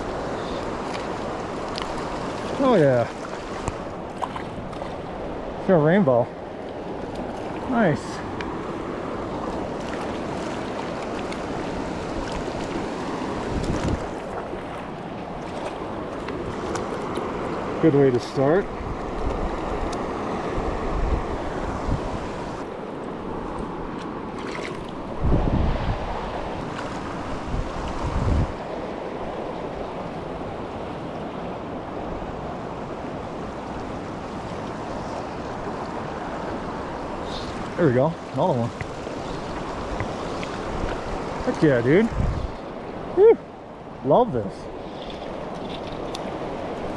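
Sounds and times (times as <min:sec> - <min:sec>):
creek water rushing over rocks: 0:00.0 - 0:46.9.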